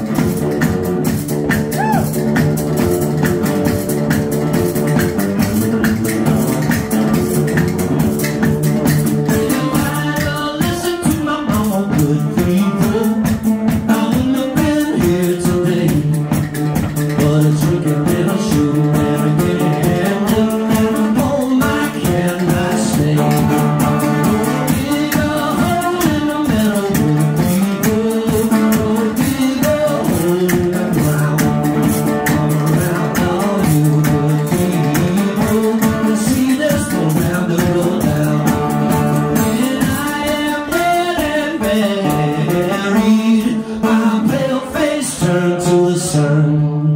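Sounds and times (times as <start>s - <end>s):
steady beat: 0.0s - 45.6s
resonator guitar: 0.0s - 46.9s.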